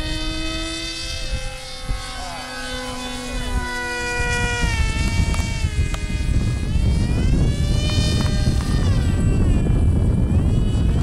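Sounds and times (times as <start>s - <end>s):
model plane motors whining: 0.0s - 11.0s
wind rumble on microphone: 0.0s - 11.0s.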